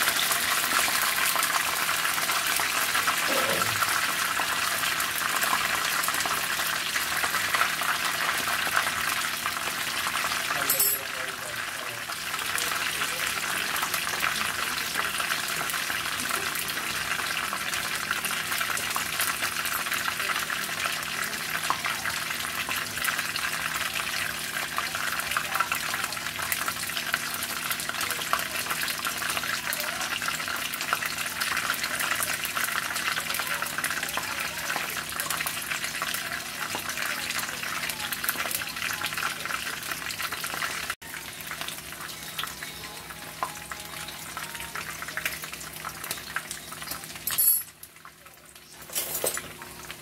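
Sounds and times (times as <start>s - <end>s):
chicken sizzling and crackling in oil: 0.0s - 50.0s.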